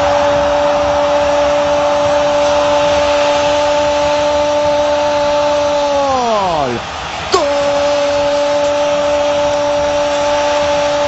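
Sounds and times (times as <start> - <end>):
stadium crowd noise: 0.0 - 11.0
steady pitched hum: 0.0 - 11.0.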